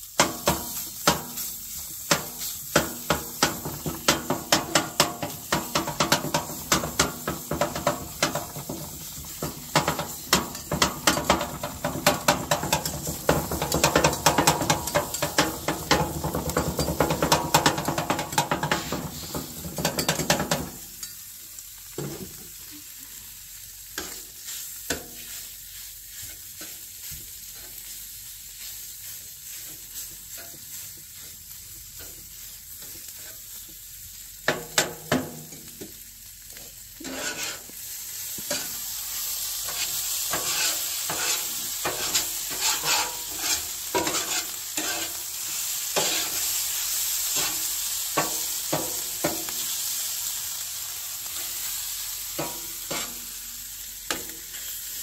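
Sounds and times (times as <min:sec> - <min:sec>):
food sizzling on griddle: 0:00.0 - 0:55.0
utensil scraping griddle: 0:00.1 - 0:20.8, 0:24.0 - 0:33.6, 0:36.6 - 0:46.7, 0:47.3 - 0:49.6, 0:52.3 - 0:53.5.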